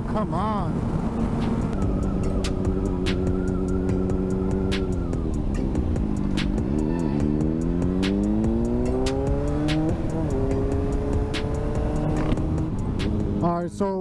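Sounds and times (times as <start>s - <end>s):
motorcycle engine accelerating: 0.8s - 13.6s.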